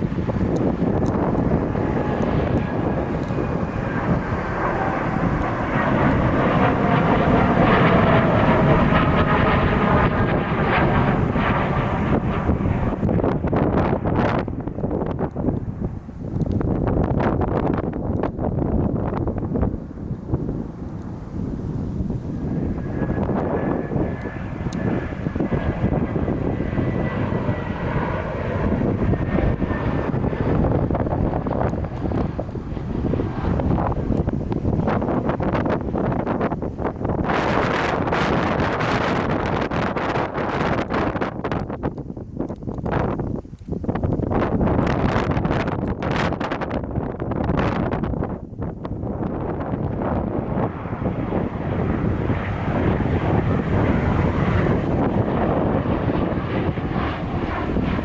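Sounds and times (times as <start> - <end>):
jet engines whining: 0.0 - 46.6, 47.5 - 58.0
wind buffeting microphone: 0.0 - 58.0.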